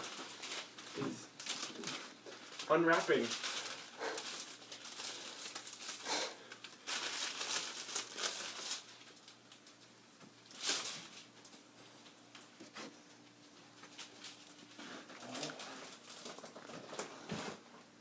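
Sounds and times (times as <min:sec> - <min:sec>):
wrapping crinkling and tearing: 0:00.0 - 0:12.5, 0:13.4 - 0:17.6.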